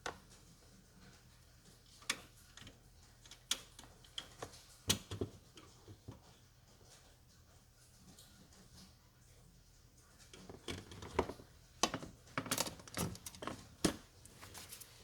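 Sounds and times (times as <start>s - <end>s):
sharp clicks and light knocks: 0.0s - 7.4s, 10.2s - 14.9s.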